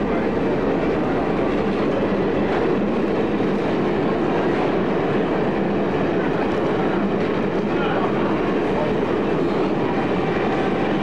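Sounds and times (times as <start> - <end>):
passenger train rumbling: 0.0 - 11.0.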